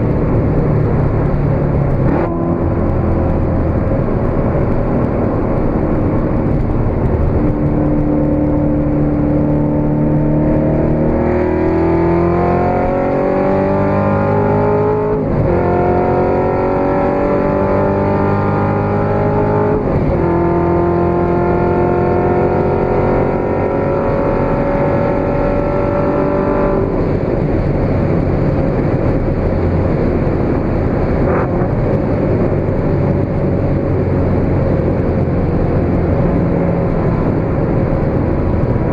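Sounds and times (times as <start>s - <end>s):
car engine revving: 0.0s - 38.9s
wind noise: 0.0s - 38.9s.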